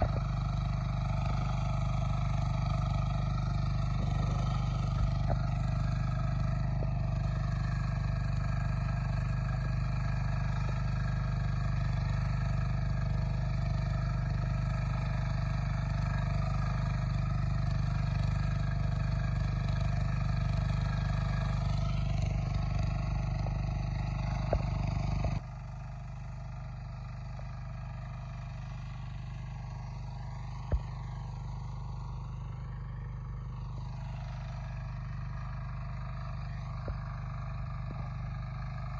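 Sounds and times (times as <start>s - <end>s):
tractor engine droning: 0.0s - 38.9s.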